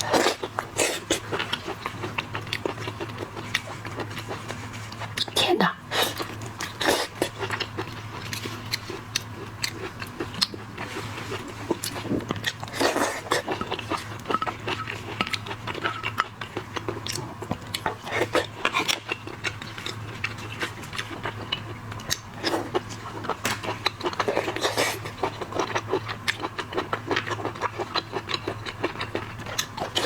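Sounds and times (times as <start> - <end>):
biting and chewing: 0.0 - 5.4, 6.0 - 30.0.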